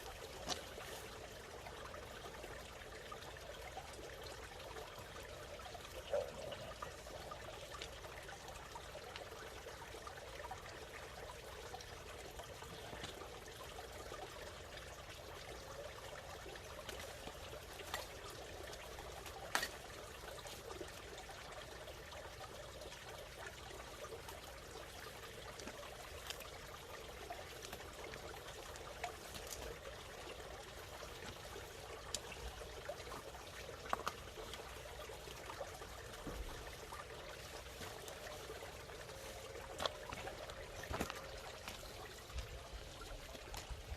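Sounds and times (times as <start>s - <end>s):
water bubbling and trickling: 0.0s - 43.9s.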